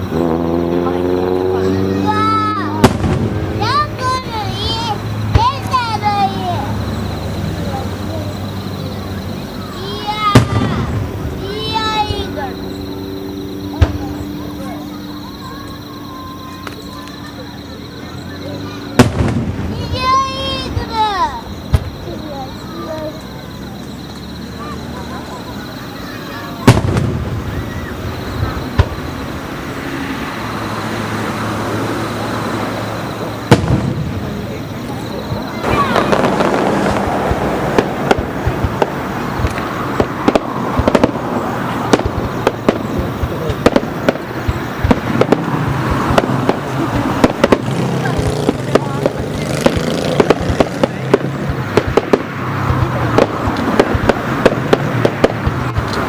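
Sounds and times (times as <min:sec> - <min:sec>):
firework bang: 0:01.6 - 0:17.1, 0:18.9 - 0:23.2, 0:26.0 - 0:30.6, 0:32.4 - 0:56.0.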